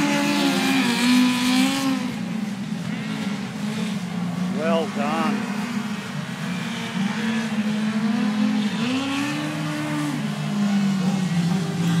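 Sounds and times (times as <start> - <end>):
small car engines running: 0.0 - 12.0.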